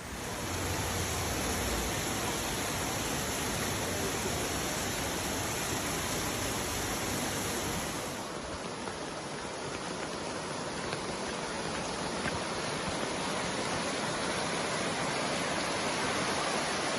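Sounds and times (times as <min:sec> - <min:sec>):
rushing floodwater roar: 0:00.0 - 0:16.9.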